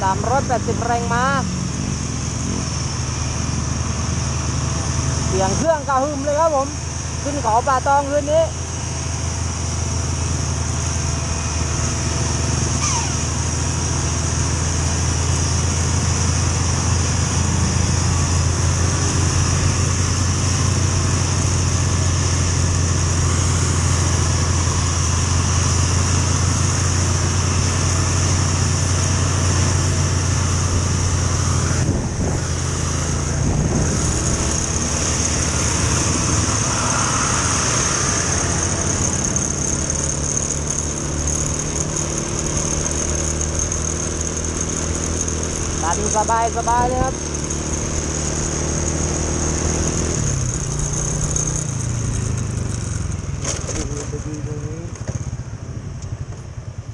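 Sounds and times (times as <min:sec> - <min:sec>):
bus engine rumbling: 0:00.0 - 0:56.9
motorcycle engine drone: 0:00.0 - 0:56.9.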